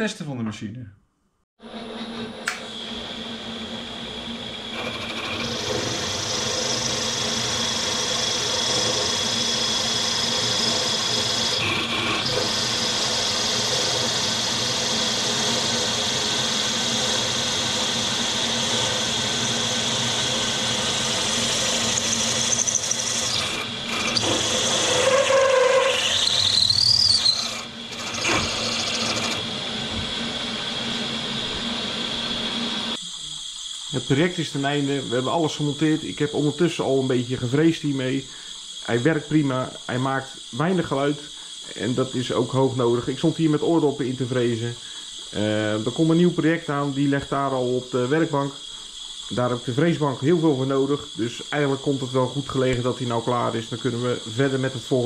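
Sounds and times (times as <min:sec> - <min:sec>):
milling machine whine: 0:01.6 - 0:55.0.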